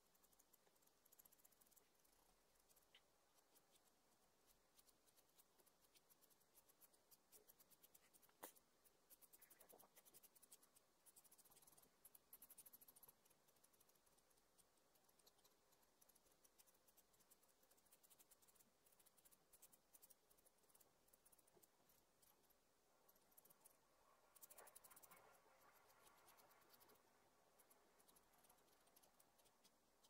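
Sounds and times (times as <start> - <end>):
pencil scratching on paper: 0.0 - 30.0.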